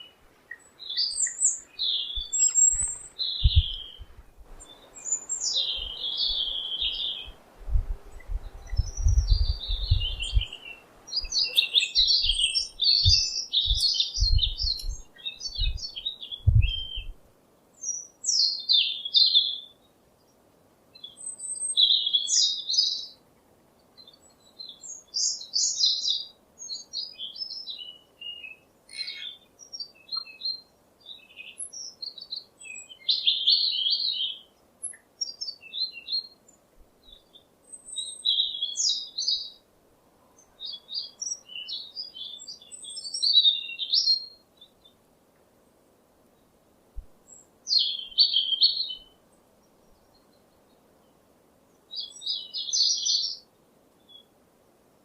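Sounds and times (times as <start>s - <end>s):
small birds chirping: 0.0s - 54.4s.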